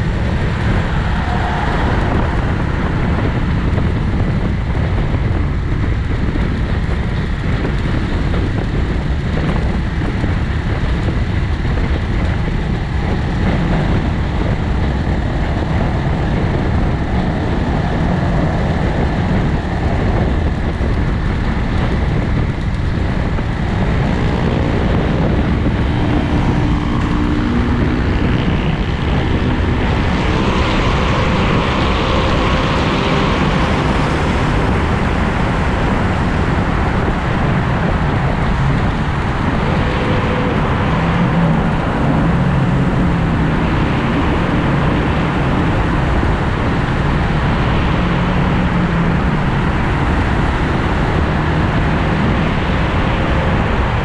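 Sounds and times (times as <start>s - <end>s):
motorcycle engine: 0.0s - 52.8s
road noise: 0.0s - 54.0s
wind rush on microphone: 0.0s - 54.0s.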